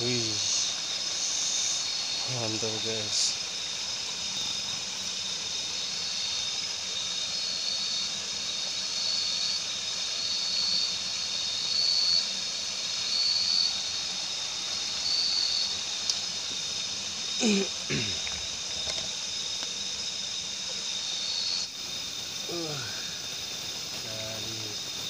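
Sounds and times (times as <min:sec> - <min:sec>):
insect chorus hiss: 0:00.0 - 0:25.0.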